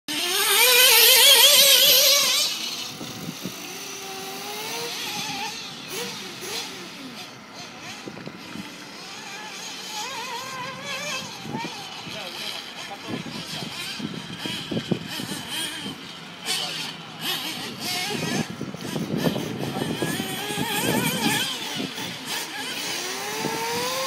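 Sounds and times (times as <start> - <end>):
engine with wavering pitch: 0.1 - 24.0.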